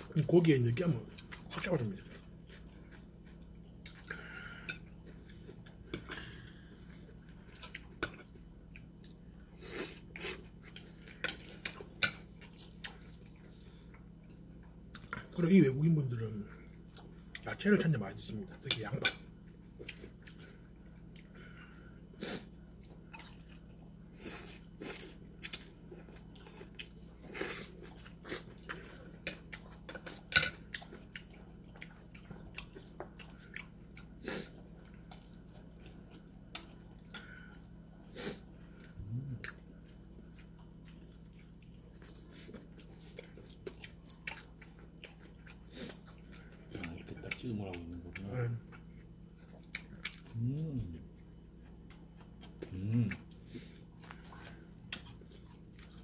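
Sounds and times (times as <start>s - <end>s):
faint low hum: 0.0s - 56.0s
person chewing and crunching food: 0.0s - 56.0s.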